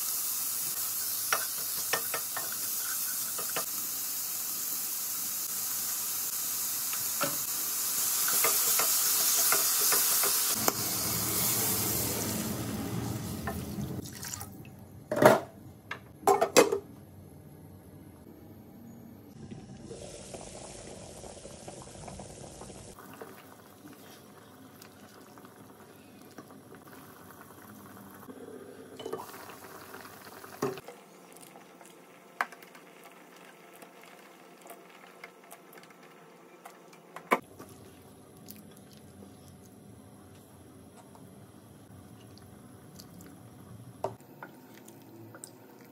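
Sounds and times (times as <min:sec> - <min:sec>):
broth boiling in a pot: 0:00.0 - 0:14.0, 0:19.4 - 0:45.9.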